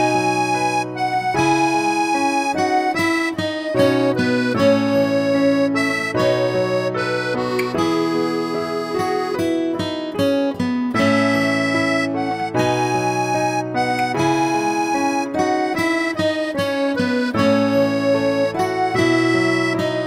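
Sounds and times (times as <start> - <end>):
instrumental background music: 0.0 - 20.0.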